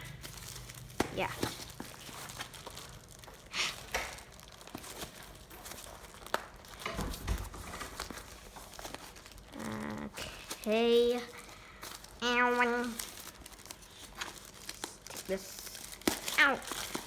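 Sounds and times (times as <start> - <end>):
packaging crinkling and tearing: 0.0 - 17.0.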